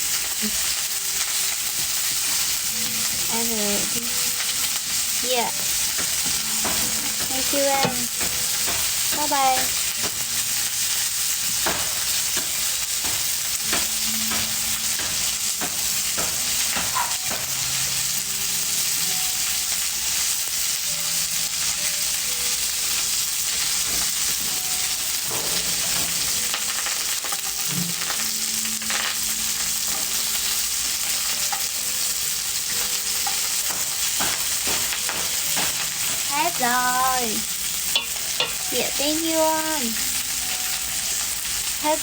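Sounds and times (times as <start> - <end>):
food sizzling in hot oil: 0.0 - 42.0.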